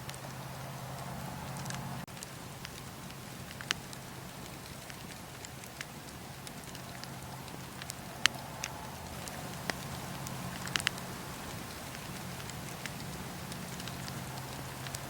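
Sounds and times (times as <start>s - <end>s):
soft hiss: 0.0s - 15.0s
wood fire crackling: 0.0s - 15.0s.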